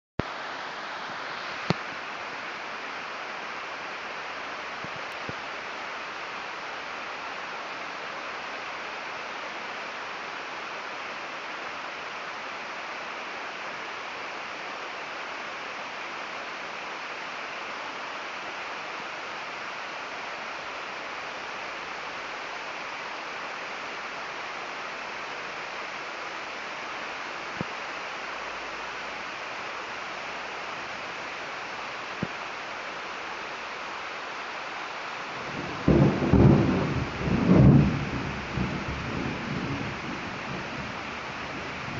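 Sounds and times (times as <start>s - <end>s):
rain falling on trees: 0.2s - 41.9s.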